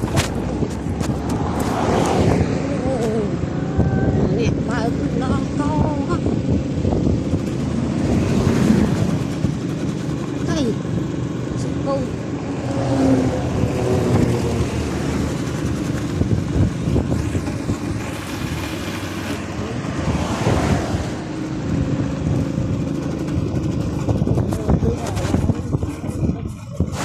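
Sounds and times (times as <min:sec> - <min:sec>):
road noise: 0:00.0 - 0:27.0
vehicle engine running: 0:00.0 - 0:27.0.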